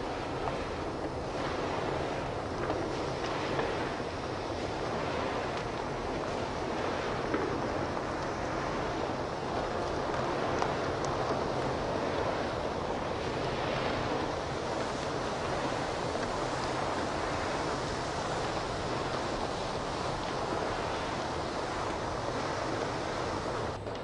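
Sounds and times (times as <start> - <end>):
conveyor motor hum: 0.0 - 24.0.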